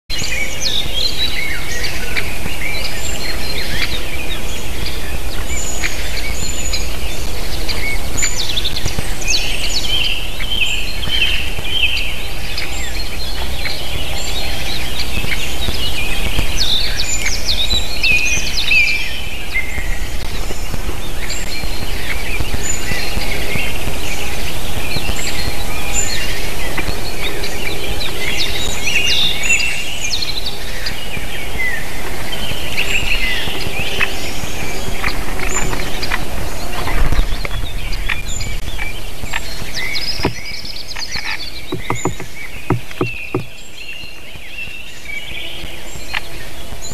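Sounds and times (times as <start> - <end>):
songbirds chirping and warbling: 0.1 - 46.9.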